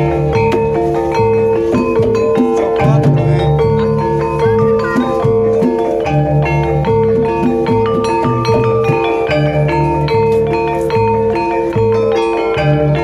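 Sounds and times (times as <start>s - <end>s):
low drum and gong pattern: 0.0s - 13.0s
metallophones ringing: 0.0s - 13.0s.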